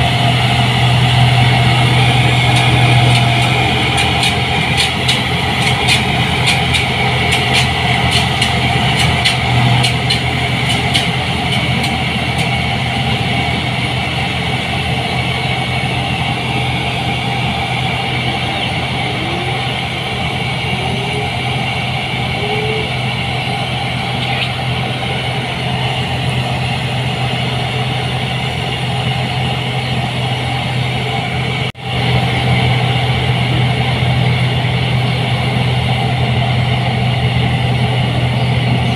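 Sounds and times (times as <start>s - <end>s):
combine harvester engine hum: 0.0s - 38.9s.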